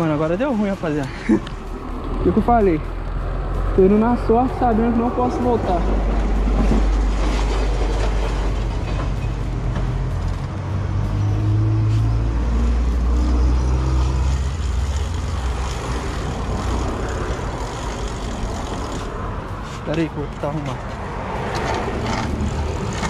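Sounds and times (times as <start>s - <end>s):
vehicle engine passing by: 0.8s - 23.0s.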